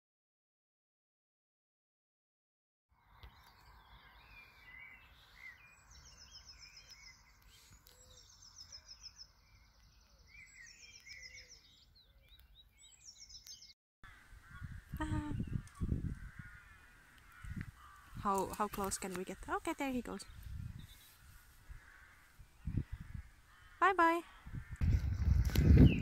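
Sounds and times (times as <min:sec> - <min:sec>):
low bird chirps: 0:03.0 - 0:26.0.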